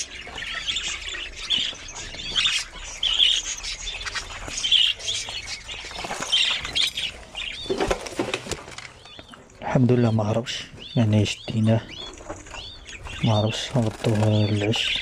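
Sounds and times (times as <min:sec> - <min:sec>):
budgerigars chattering: 0:00.0 - 0:08.0, 0:08.8 - 0:15.0.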